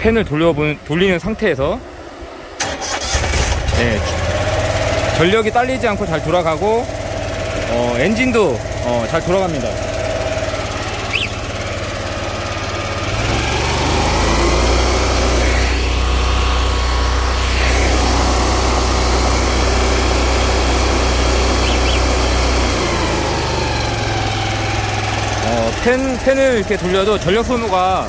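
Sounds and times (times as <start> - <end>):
cooling fans: 0.0 - 28.0
engine running: 1.8 - 28.0.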